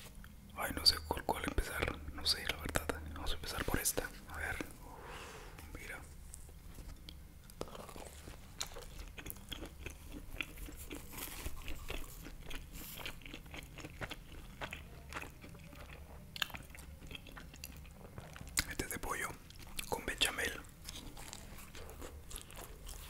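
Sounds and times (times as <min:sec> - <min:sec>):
crunchy crust being chewed: 0:01.2 - 0:04.8, 0:05.8 - 0:23.0.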